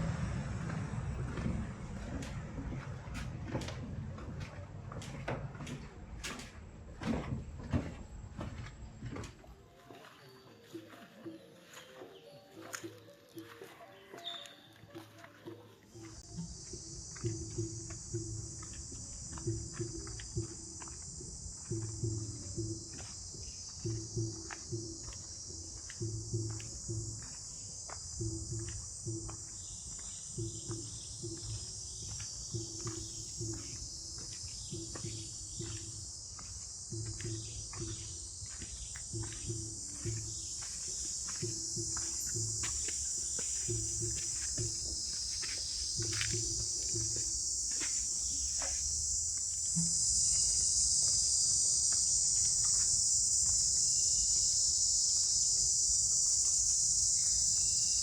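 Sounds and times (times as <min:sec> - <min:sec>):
footsteps on the ground: 0:00.0 - 0:57.9
insects buzzing: 0:00.0 - 0:58.0.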